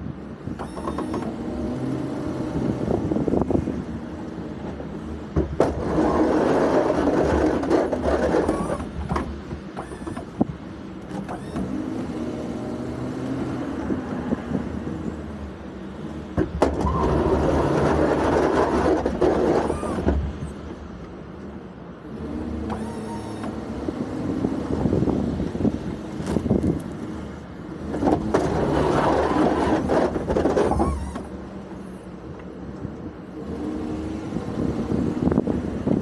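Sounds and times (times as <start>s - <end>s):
plow scraping snow on pavement: 0.0s - 36.0s.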